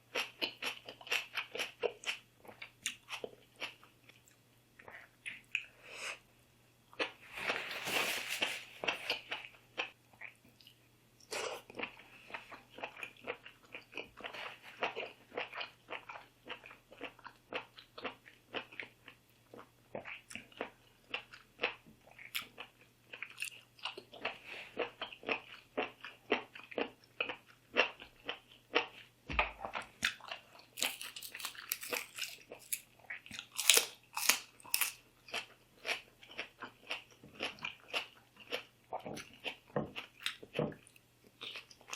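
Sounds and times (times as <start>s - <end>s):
person chewing crunchy food: 0.0s - 6.2s, 6.9s - 41.9s.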